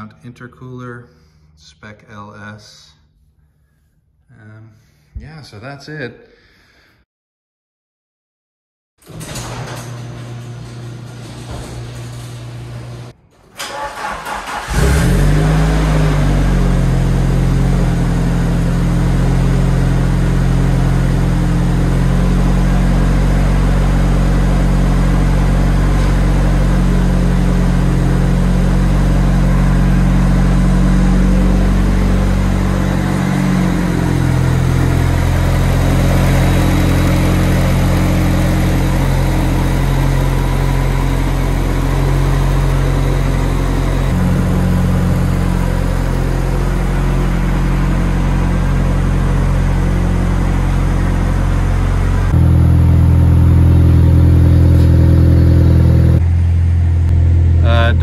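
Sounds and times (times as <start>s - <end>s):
car engine starting and idling: 9.0s - 58.0s.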